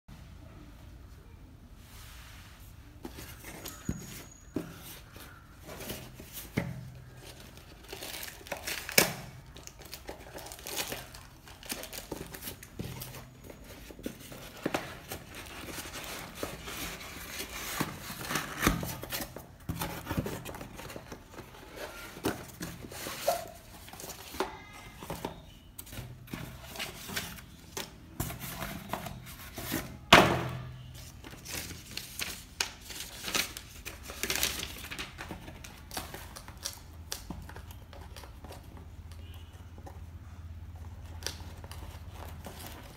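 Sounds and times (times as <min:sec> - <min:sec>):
cardboard and paper rustling: 0:02.6 - 0:42.9.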